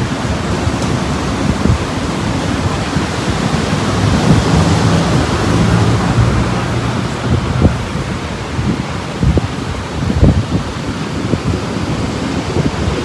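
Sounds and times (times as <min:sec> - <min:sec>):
rough sea surf: 0:00.0 - 0:13.0
storm wind buffeting microphone: 0:00.0 - 0:13.0.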